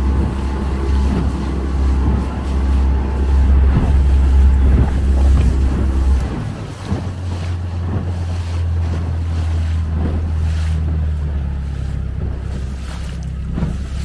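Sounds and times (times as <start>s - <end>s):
motorboat engine running: 0.0s - 14.0s
water rushing past hull: 0.0s - 14.0s
wind buffeting microphone: 0.0s - 14.0s.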